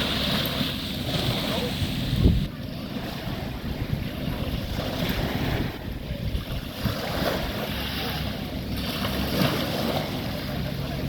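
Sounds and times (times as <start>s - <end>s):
sea waves washing on beach: 0.0s - 11.0s
wind buffeting microphone: 0.0s - 11.0s.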